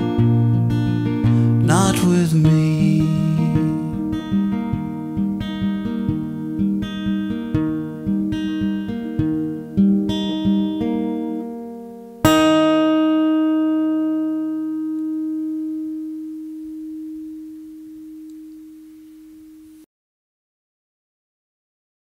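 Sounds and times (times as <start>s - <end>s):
acoustic guitar chord ringing: 0.0s - 19.9s.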